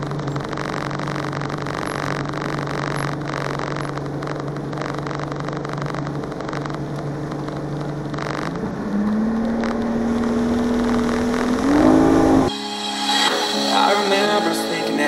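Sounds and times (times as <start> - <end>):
outboard motor running: 0.0 - 12.5.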